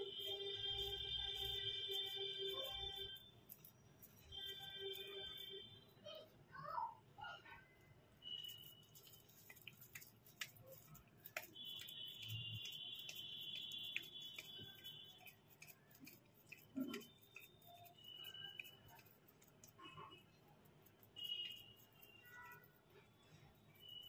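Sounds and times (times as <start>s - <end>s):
hands shaping minced meat: 0.0s - 6.4s, 7.3s - 24.0s.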